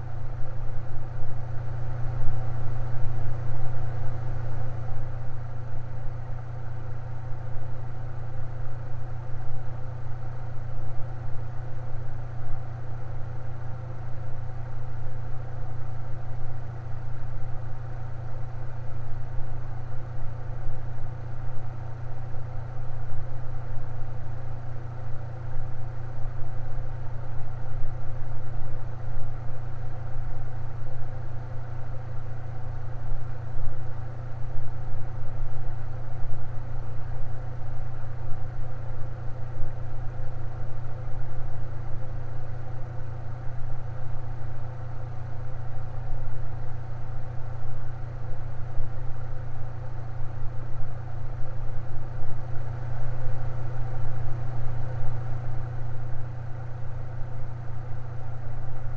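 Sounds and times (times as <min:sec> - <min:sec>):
electric fan running: 0:00.0 - 0:58.9.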